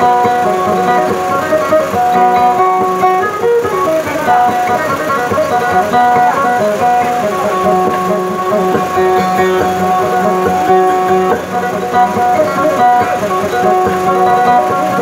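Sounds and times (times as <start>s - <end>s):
plucked lute melody: 0.0s - 15.0s.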